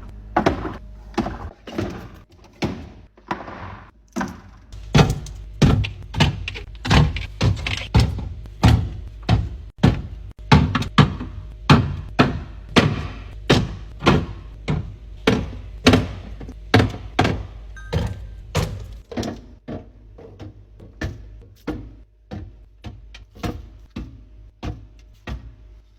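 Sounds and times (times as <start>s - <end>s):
containers knocking in refrigerator: 4.2s - 25.6s.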